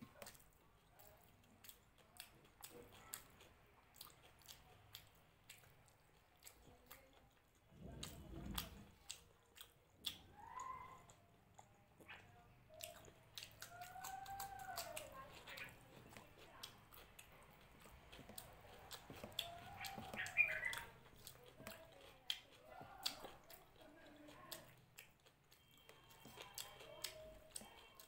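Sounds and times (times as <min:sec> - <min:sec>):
chewing and mouth smacks: 0:00.0 - 0:28.0.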